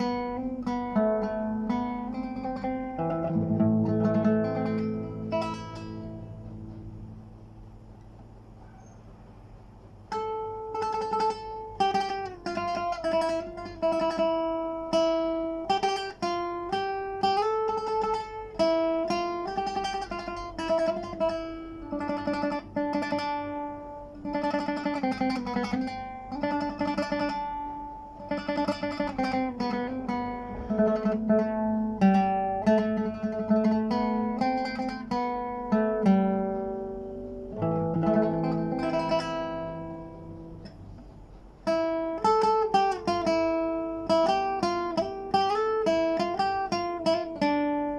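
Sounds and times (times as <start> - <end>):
plucked string instrument melody: 0.0 - 8.2, 9.8 - 47.9.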